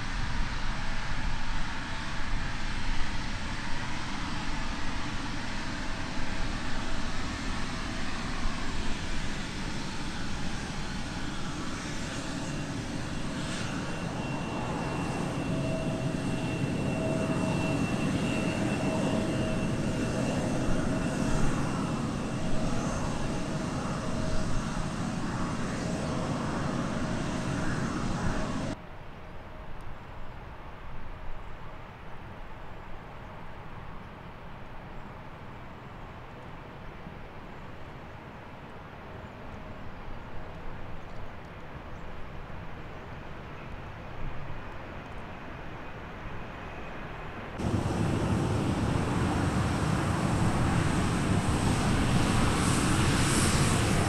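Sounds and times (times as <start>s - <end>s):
jet engines rumbling and whining: 0.0s - 28.8s, 35.4s - 54.0s.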